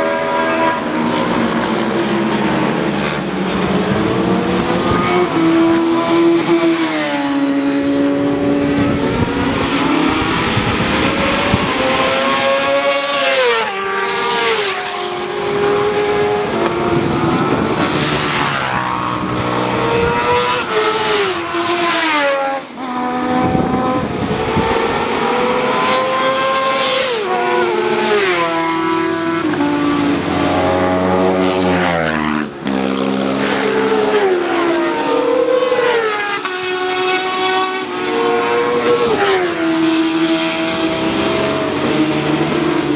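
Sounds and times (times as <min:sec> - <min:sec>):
racing motorcycles passing at speed: 0:00.0 - 0:42.9.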